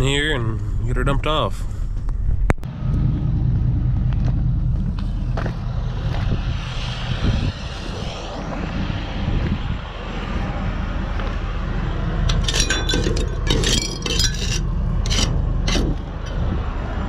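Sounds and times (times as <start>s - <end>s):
truck engine running: 2.6s - 17.0s.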